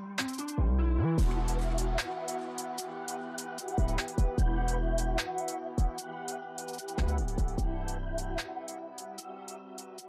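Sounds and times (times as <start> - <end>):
electronic music with deep bass: 0.1 - 10.0.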